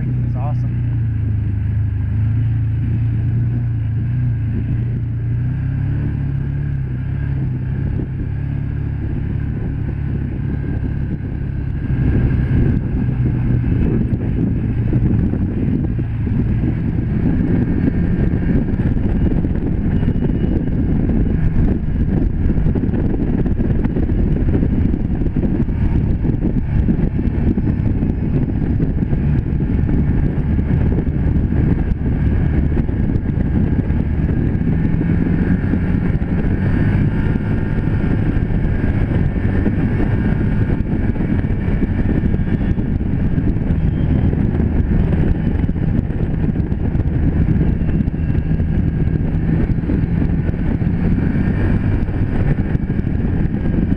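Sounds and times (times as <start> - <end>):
engine running steadily: 0.0 - 53.9
gravel road noise: 0.0 - 53.9
wind buffeting microphone: 0.0 - 53.9.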